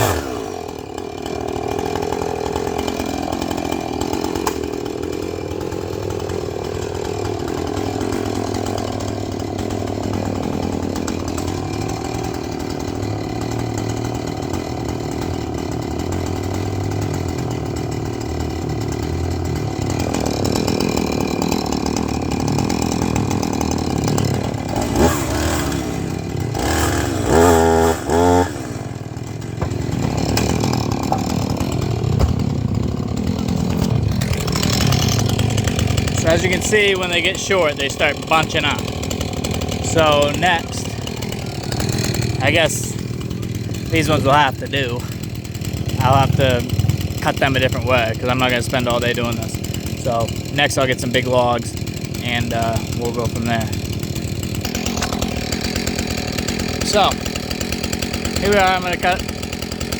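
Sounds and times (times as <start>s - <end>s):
chainsaw cutting logs: 0.0s - 59.9s.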